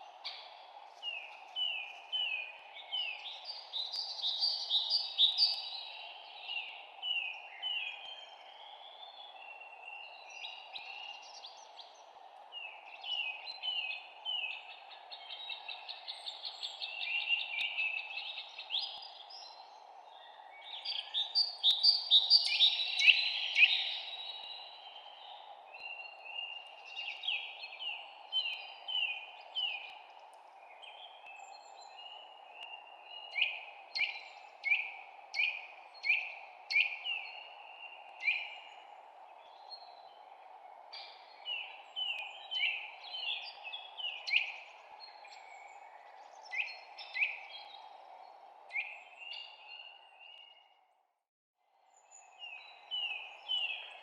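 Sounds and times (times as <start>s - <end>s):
songbirds chirping: 0.0s - 51.0s, 51.7s - 54.0s.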